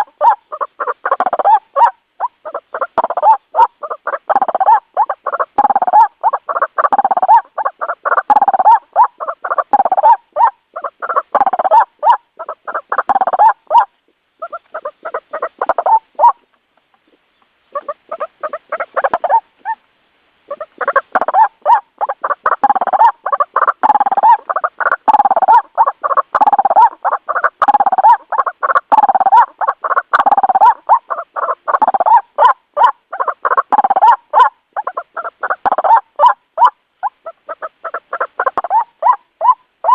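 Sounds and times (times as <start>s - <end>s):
waterhen calling: 0.0s - 39.9s.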